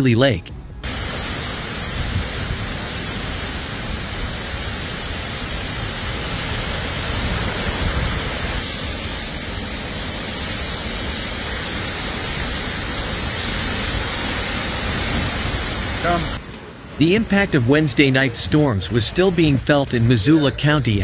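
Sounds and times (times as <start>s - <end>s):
strong wind: 0.6s - 17.6s
heavy rain: 0.8s - 21.0s.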